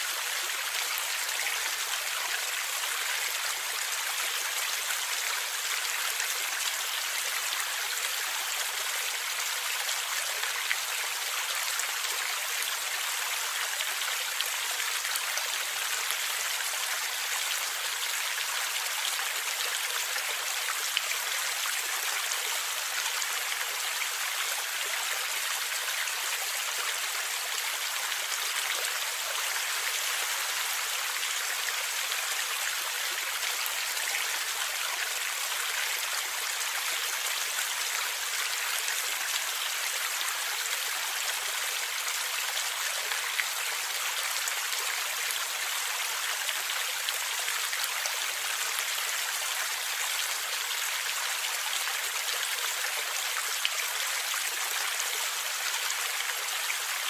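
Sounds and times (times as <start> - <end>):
stream gurgling over rocks: 0.0 - 57.0.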